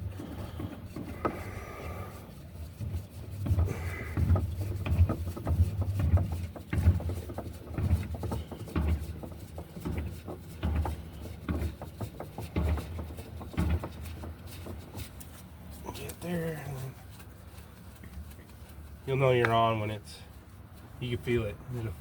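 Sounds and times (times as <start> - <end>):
fuel filter threading by hand: 0.0 - 22.0.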